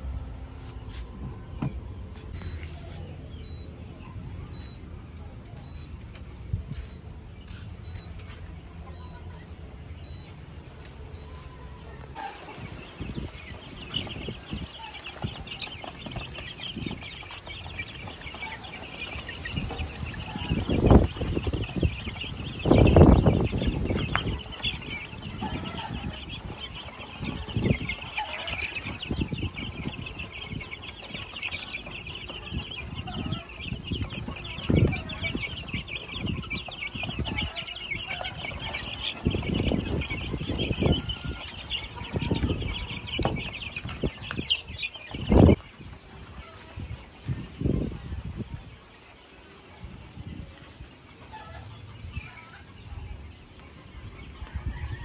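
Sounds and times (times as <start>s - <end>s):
chicks peeping: 0.0s - 55.0s.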